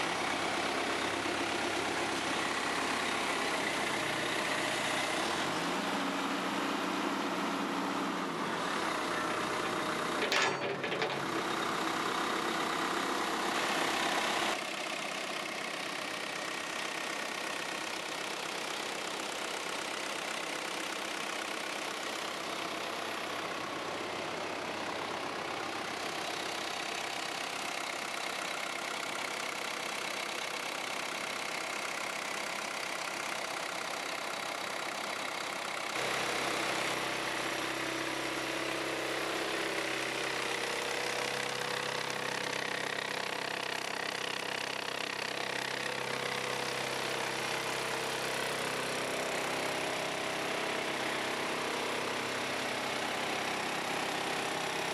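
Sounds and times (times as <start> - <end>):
diesel engine idling: 0.0 - 10.2, 11.2 - 54.9.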